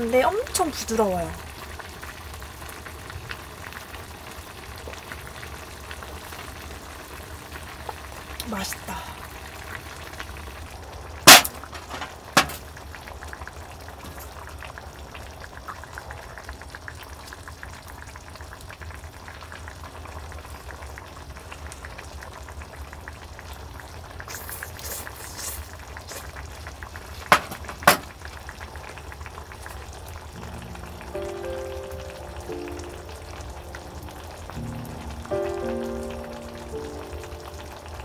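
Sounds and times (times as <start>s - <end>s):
hot pot bubbling: 0.0s - 38.0s.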